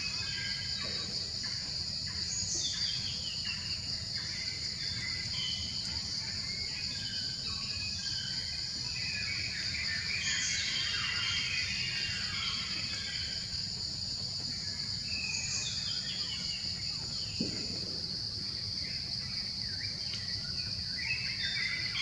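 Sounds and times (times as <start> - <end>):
insect chorus: 0.0 - 22.0.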